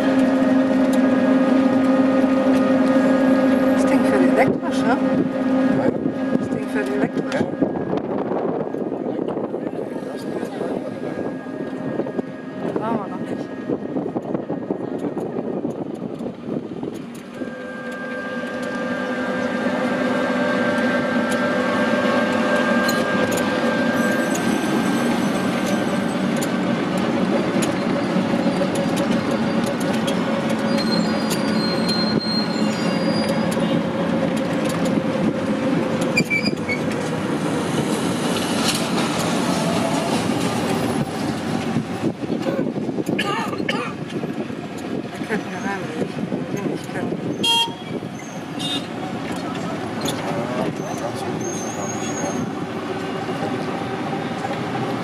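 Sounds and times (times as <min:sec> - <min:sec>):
road noise: 0:00.0 - 0:55.0
taxi drivetrain whine: 0:00.0 - 0:55.0.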